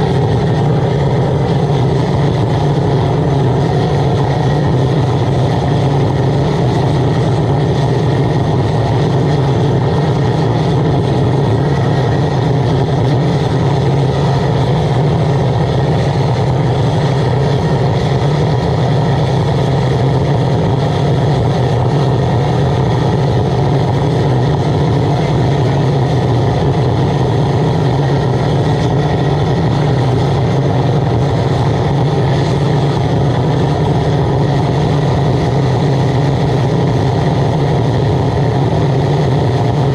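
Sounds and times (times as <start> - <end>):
oil burner blower and flame: 0.0 - 39.9.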